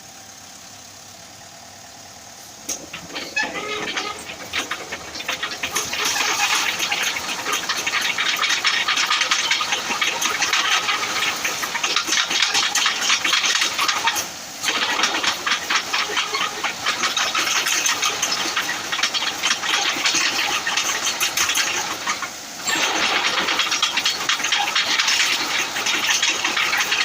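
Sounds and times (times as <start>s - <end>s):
mini excavator running: 0.0s - 27.0s.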